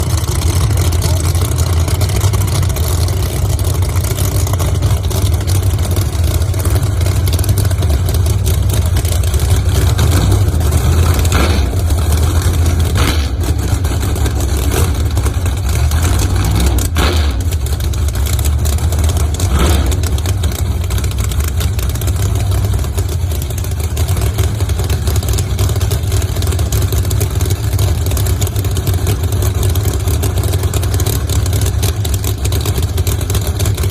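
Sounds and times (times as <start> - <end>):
racing car engines rumbling: 0.0 - 33.9.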